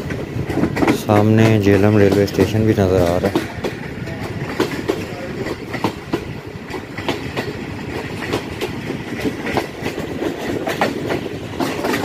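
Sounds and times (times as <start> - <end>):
train rumbling: 0.0 - 12.0
wheels clicking over rail joints: 0.0 - 12.0.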